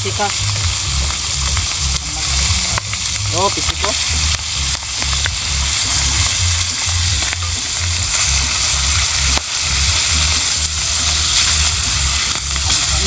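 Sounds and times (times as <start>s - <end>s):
fish sizzling in hot oil: 0.0s - 13.0s
low uneven rumble: 0.0s - 13.0s
metal spatula turning fish: 0.1s - 13.0s.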